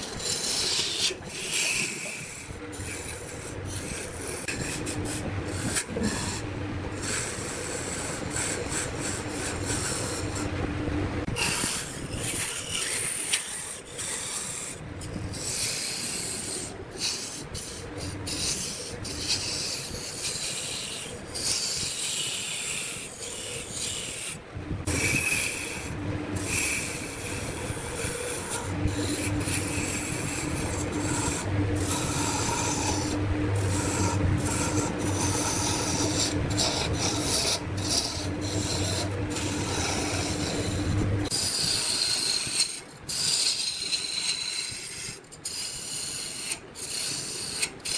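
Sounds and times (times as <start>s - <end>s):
lathe motor hum: 0.0s - 47.9s
lathe tool scraping spinning wood: 0.0s - 47.9s.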